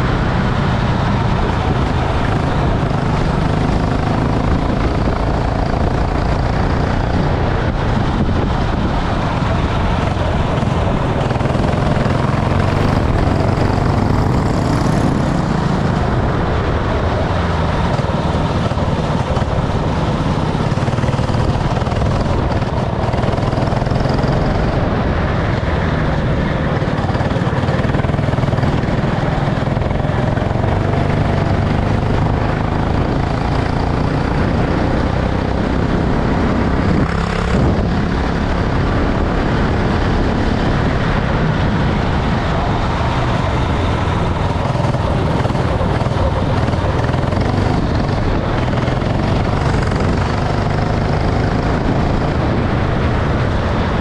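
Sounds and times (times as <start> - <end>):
go-kart engine running: 0.0 - 54.0
rushing noise: 0.0 - 54.0.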